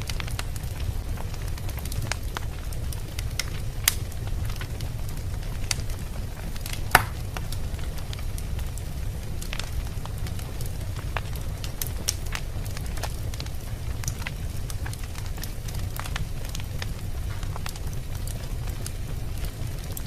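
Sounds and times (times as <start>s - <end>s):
low fire rumble: 0.0s - 20.0s
wood fire crackling and popping: 0.0s - 20.0s.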